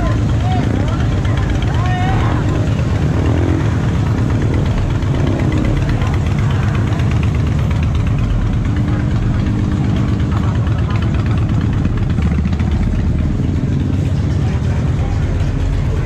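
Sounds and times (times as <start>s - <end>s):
motorcycle engines idling: 0.0s - 16.0s.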